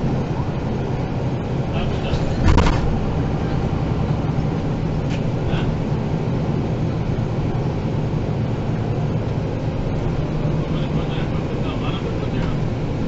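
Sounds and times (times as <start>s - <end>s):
bus engine low drone: 0.0s - 13.0s.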